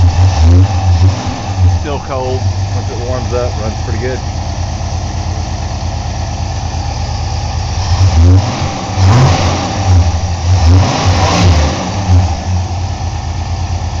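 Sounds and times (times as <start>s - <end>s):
car engine revving: 0.0s - 5.0s, 6.1s - 14.0s.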